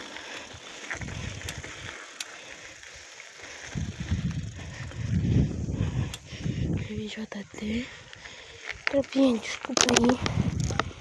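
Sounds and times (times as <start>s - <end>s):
bike rolling on gravel: 0.0s - 11.0s
wind buffeting microphone: 0.5s - 2.0s, 3.4s - 11.0s.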